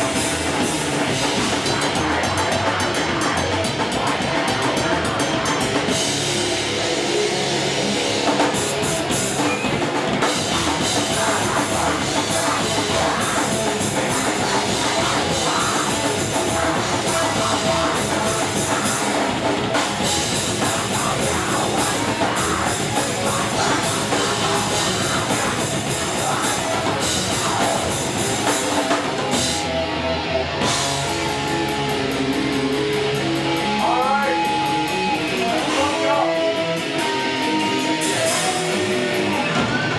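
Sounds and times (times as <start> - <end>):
distorted electric guitars: 0.0 - 39.9
pounding drum kit: 0.0 - 39.9.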